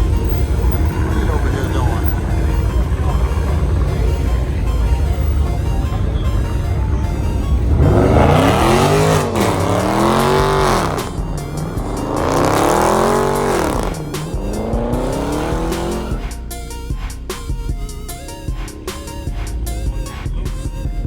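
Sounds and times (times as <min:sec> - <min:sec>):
car engine revving hard: 0:00.0 - 0:17.2
background music: 0:00.0 - 0:21.0.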